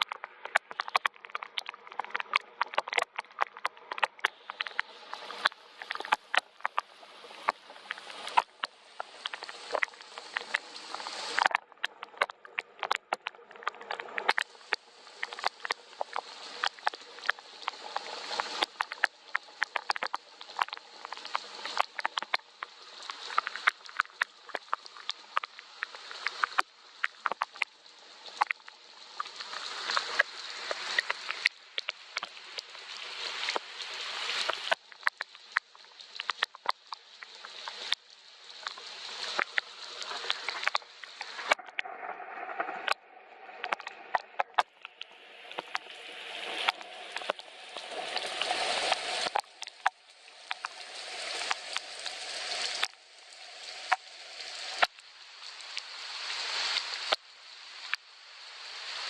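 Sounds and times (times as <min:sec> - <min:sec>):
raindrops ticking close by: 0:00.0 - 0:41.9, 0:43.6 - 0:59.0
rain falling: 0:03.6 - 0:41.9, 0:43.6 - 0:59.0.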